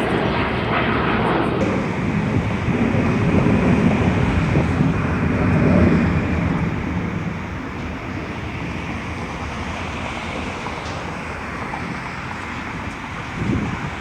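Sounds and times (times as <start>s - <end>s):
jet airliner engine rumble: 0.0s - 14.0s.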